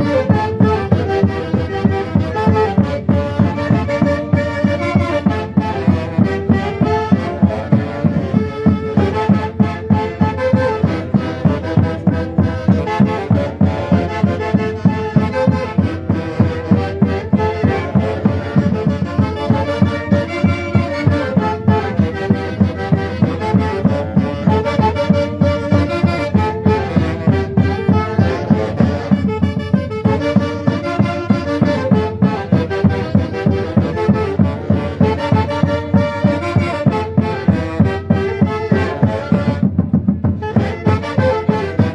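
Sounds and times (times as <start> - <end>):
wind instrument melody: 0.0 - 41.9.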